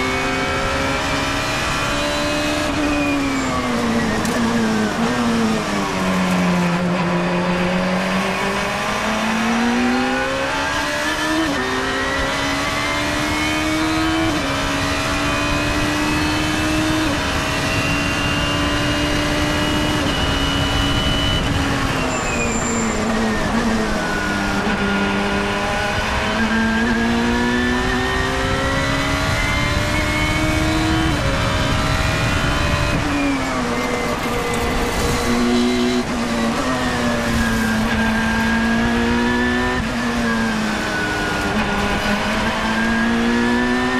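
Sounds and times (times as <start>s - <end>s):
racing car engine accelerating: 0.0s - 43.9s.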